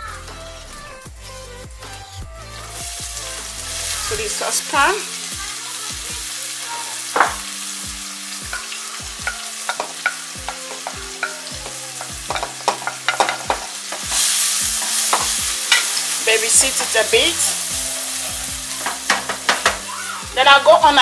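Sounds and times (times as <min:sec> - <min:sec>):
onions sizzling in oil: 0:02.4 - 0:21.0.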